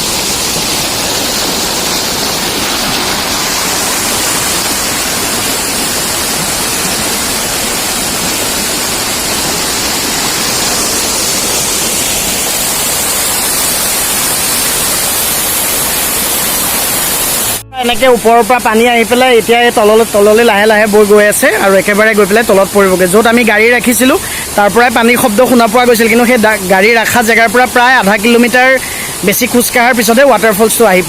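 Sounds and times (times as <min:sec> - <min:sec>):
waterfall roaring over rocks: 0:00.0 - 0:31.0.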